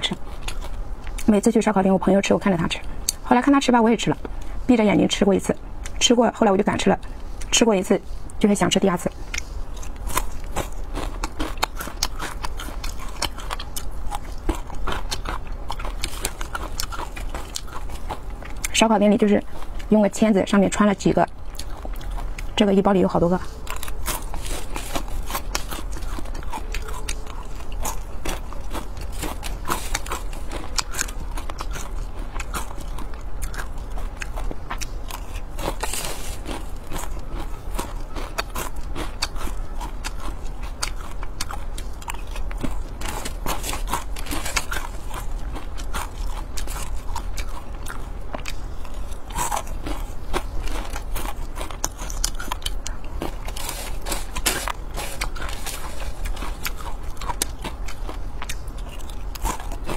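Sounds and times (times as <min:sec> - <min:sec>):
crunching and chewing crispy food: 0:00.0 - 0:59.9.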